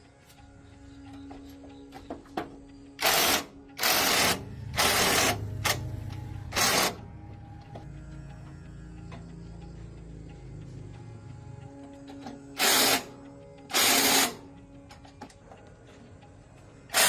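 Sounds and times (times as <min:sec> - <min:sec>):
low mechanical hum: 0:00.4 - 0:17.0.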